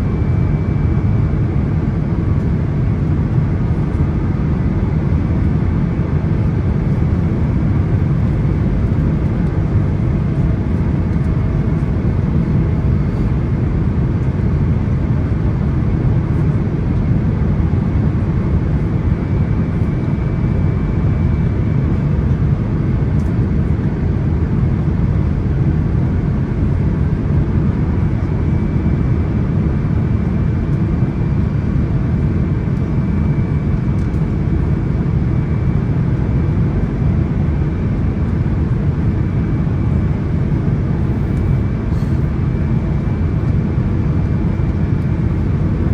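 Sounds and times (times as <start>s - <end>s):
airliner cabin engine rumble: 0.0s - 45.9s.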